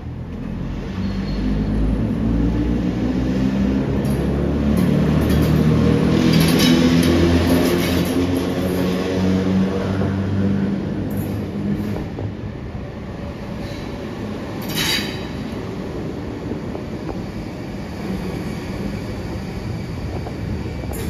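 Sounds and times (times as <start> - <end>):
train carriages rumbling on rails: 3.6 - 21.0.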